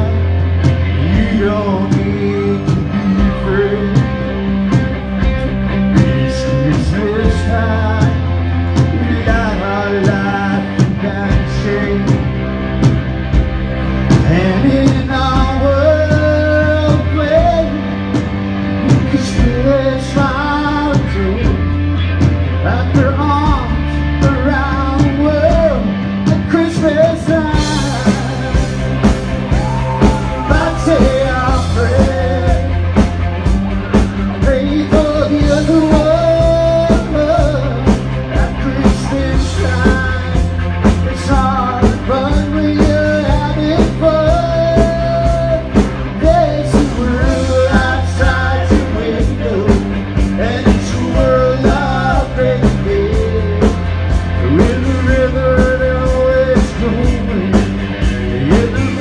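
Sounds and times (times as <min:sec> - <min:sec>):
drums keeping a steady beat: 0:00.0 - 0:59.0
rock band playing: 0:00.0 - 0:59.0.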